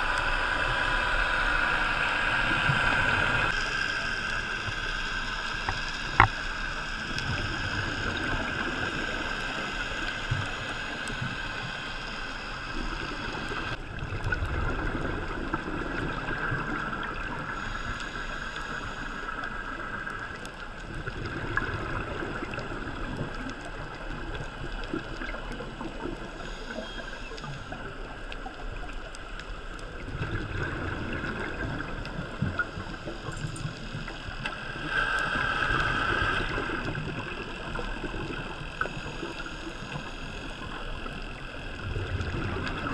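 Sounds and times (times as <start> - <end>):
underwater hiss: 0.0 - 13.8, 14.8 - 20.5, 21.1 - 42.9
gurgling regulator bubbles: 0.0 - 42.9.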